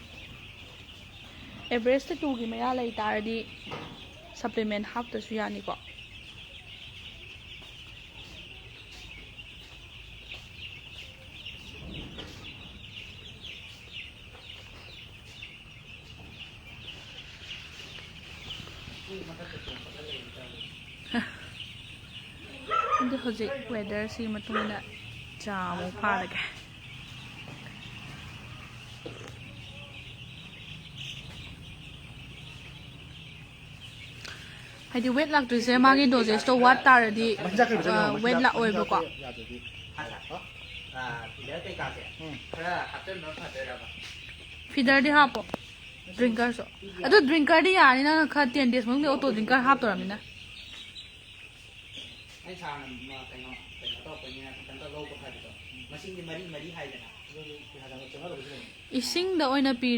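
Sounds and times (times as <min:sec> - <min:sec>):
chicks cheeping: 0:00.0 - 0:59.9.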